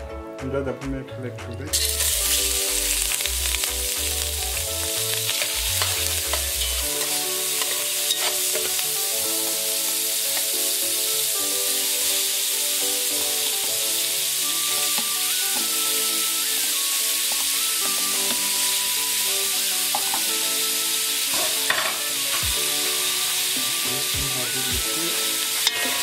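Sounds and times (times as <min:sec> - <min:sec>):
shrimp sizzling in hot oil: 0:01.7 - 0:26.0.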